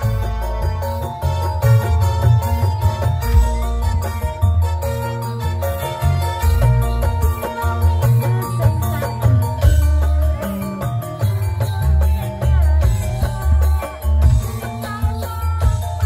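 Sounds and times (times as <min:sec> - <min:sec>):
drum and percussion strokes: 0:00.0 - 0:16.0
ringing metallophone tones: 0:00.0 - 0:16.0.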